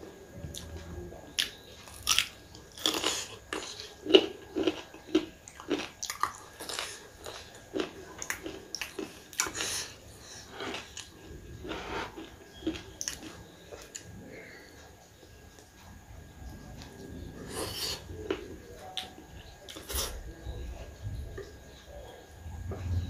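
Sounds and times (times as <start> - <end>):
person chewing food: 0.5 - 20.2.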